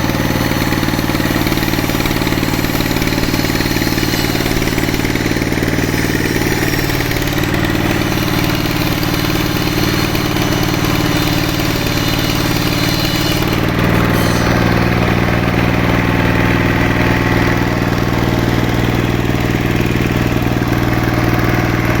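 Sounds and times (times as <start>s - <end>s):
sawmill engine drone: 0.0s - 22.0s.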